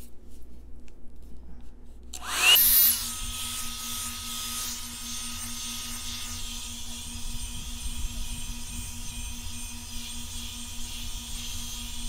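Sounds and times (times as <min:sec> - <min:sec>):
hot-air brush motor whine: 0:02.2 - 0:12.0.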